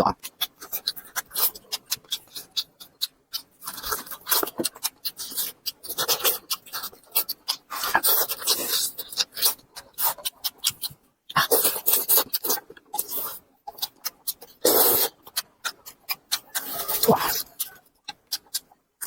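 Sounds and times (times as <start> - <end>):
dogs chewing food: 0.2 - 18.8.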